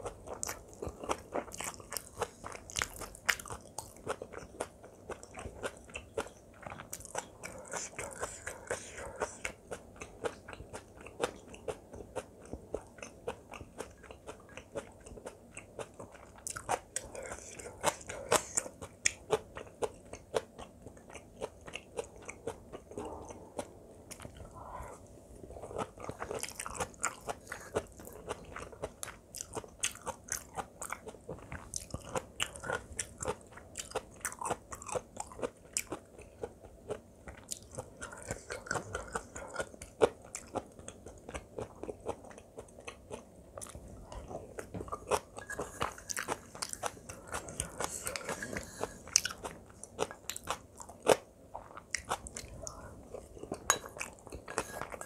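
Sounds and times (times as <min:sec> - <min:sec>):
chewing crunches: 0:00.0 - 0:24.5, 0:25.6 - 0:55.0.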